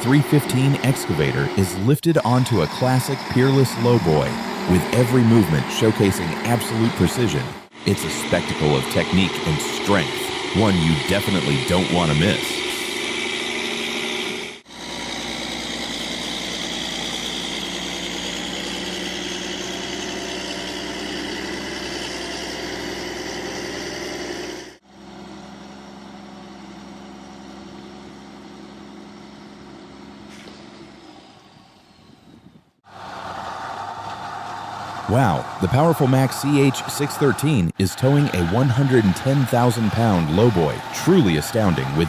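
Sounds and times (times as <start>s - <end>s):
quieter engine drone: 0.0s - 32.3s, 32.9s - 42.0s
diesel engine running: 0.0s - 42.0s.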